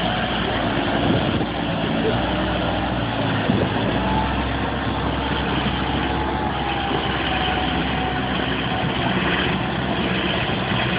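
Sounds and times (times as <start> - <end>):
constant wash of noise: 0.0 - 10.9
heavy engine idling: 0.0 - 10.9.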